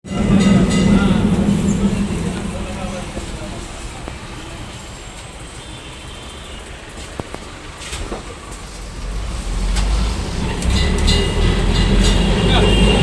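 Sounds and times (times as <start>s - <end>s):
street traffic hum: 0.0s - 13.0s
tram rumbling on rails: 0.0s - 13.0s.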